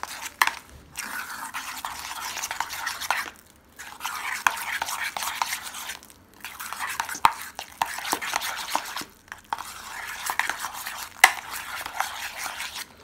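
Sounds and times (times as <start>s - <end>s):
spoon scraping hummus in bowl: 0.0s - 12.9s.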